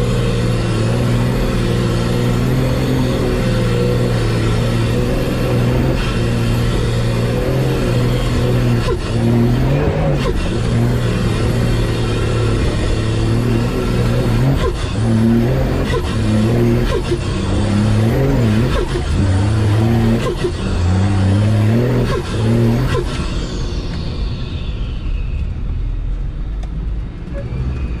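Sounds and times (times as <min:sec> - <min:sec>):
diesel engine revving: 0:00.0 - 0:28.0
high whine: 0:00.0 - 0:28.0.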